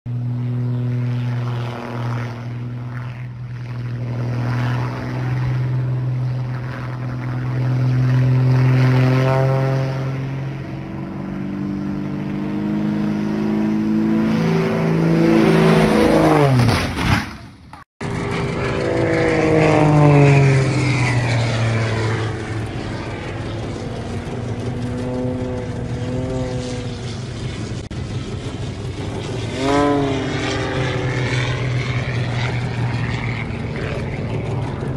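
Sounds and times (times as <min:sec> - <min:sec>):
propeller plane engine drone: 0:00.1 - 0:34.9.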